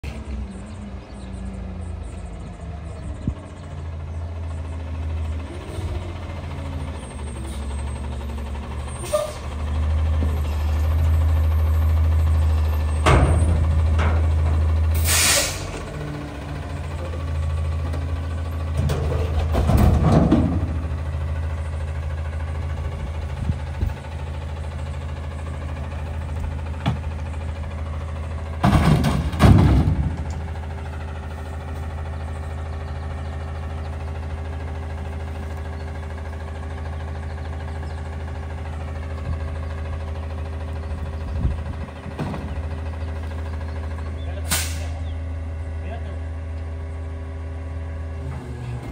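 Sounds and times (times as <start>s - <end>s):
garbage truck engine idling: 0.1s - 48.9s.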